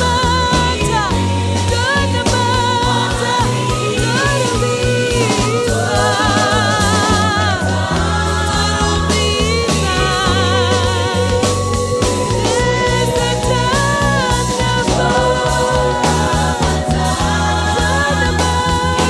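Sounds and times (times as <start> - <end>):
choir singing with vibrato: 0.0 - 19.0
steady drum beat: 0.0 - 19.0
sustained bass notes: 0.0 - 19.0.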